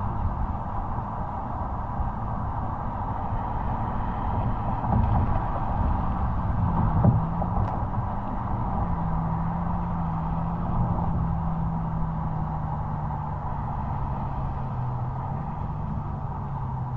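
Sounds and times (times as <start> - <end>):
car exhaust rumble: 0.0 - 16.9.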